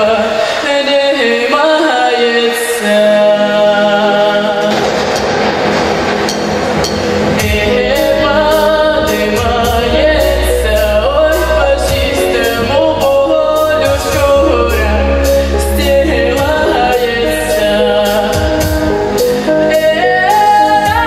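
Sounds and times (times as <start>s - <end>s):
pop backing track with drums: 3.8s - 21.0s.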